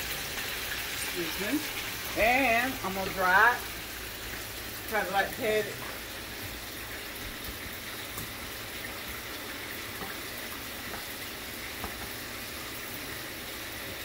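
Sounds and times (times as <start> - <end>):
kitchen background hiss: 0.0 - 14.0.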